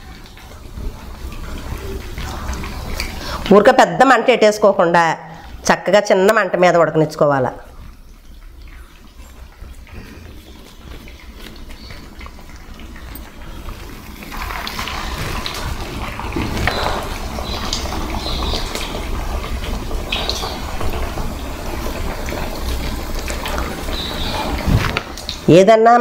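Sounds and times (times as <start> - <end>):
batter foaming in oil: 0.0 - 25.6
food deep-frying in oil: 0.0 - 26.0.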